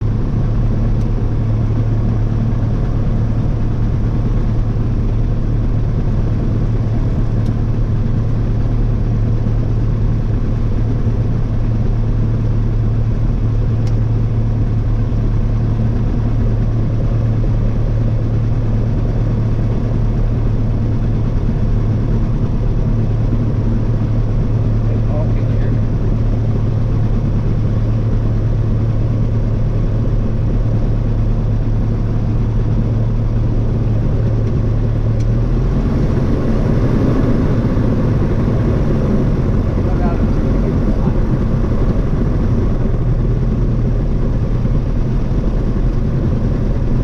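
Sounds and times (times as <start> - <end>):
airplane engine droning: 0.0 - 47.0.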